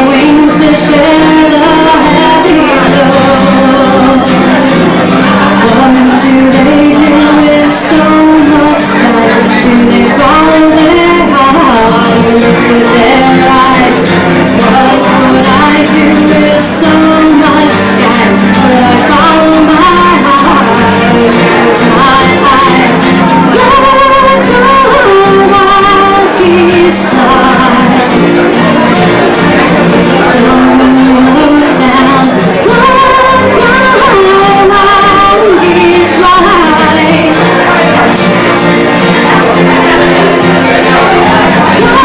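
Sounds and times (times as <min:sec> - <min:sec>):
acoustic guitar: 0:00.0 - 0:42.0
woman singing: 0:00.0 - 0:42.0.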